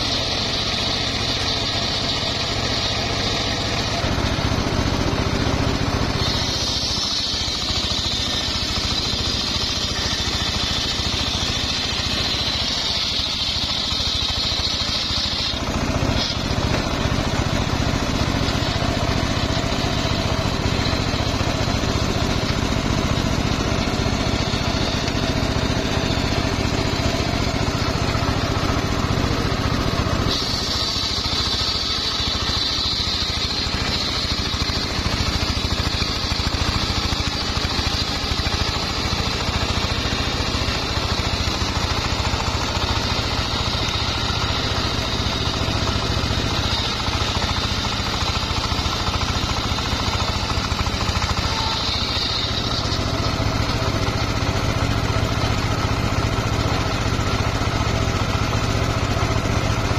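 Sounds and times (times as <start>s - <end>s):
circular saw cutting wood: 0.0s - 59.9s
engine running: 0.0s - 59.9s.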